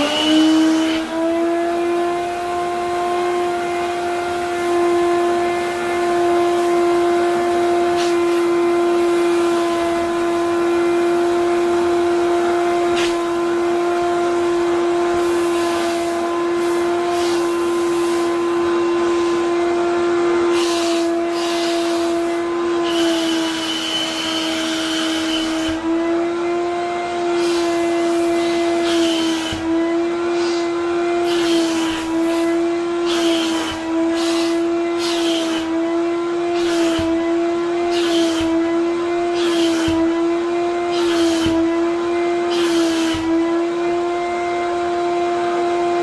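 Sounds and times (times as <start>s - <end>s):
wet vacuum cleaner motor whine: 0.0s - 46.0s.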